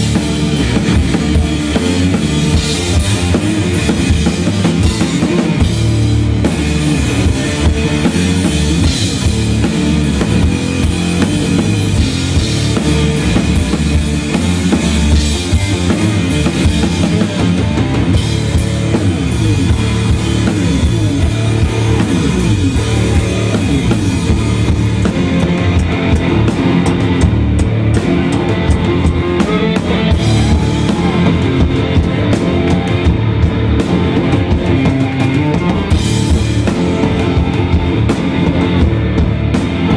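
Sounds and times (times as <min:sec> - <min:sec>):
drum kit played hard: 0:00.0 - 0:39.9
electric guitar: 0:00.0 - 0:39.9.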